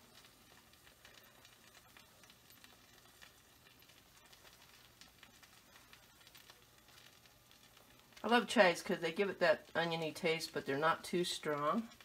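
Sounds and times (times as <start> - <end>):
eggs sizzling in a skillet: 0.0 - 12.0
light crackles: 0.0 - 12.0.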